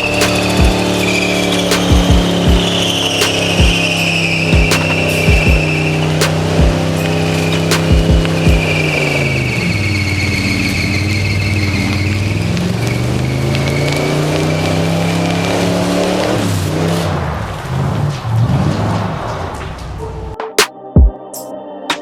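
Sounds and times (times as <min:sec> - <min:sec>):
car engine: 0:00.0 - 0:20.4
high-pitched squeal: 0:00.0 - 0:20.4.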